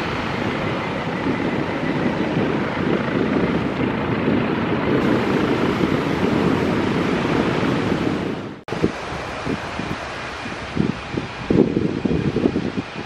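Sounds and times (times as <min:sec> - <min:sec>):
jet engines at take-off thrust: 0:00.0 - 0:13.0.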